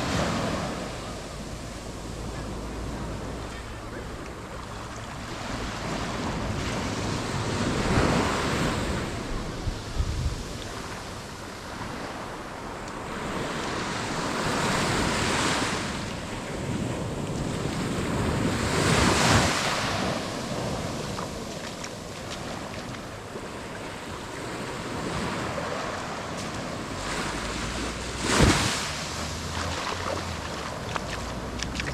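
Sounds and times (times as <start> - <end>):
surf breaking on a beach: 0.0 - 31.9
wind buffeting microphone: 0.0 - 31.9.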